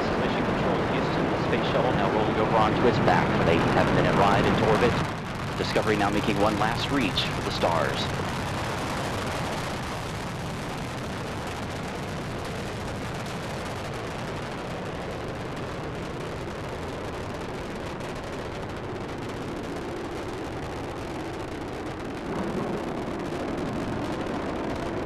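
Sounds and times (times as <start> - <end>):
rocket engines roaring: 0.0 - 25.0.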